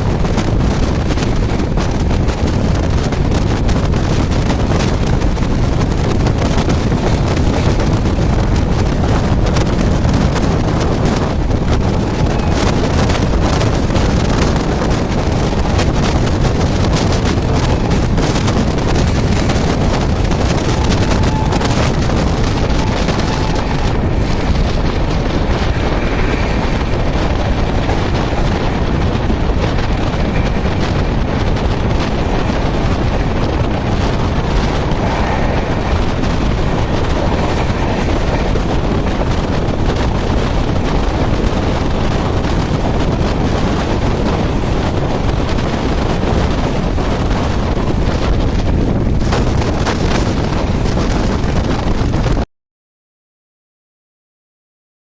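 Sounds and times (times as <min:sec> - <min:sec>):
train running noise: 0:00.0 - 0:52.4
wind rushing on microphone: 0:00.0 - 0:52.5.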